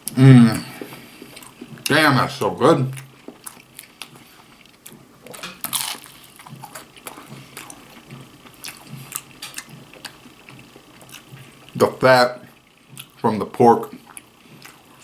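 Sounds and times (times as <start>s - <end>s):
person chewing food: 0.0s - 1.9s, 2.9s - 13.2s, 13.8s - 15.0s.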